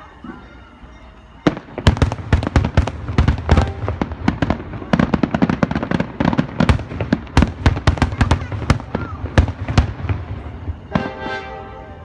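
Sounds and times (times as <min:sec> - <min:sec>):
fireworks bangs: 0:01.4 - 0:12.0.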